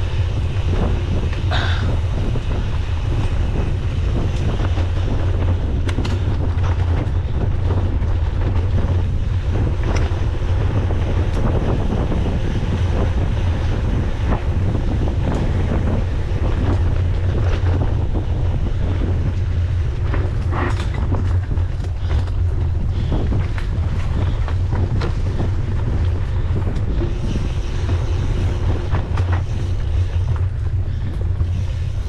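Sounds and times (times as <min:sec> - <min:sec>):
bike clicking and rattling: 0:00.0 - 0:32.0
wind buffeting microphone: 0:00.0 - 0:32.0.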